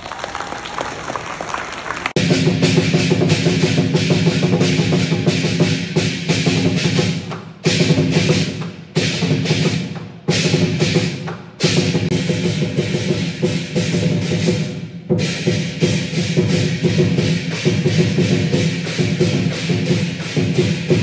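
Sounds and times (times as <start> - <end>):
large drum beaten rapidly: 2.1 - 21.0
clashing cymbals: 2.2 - 21.0.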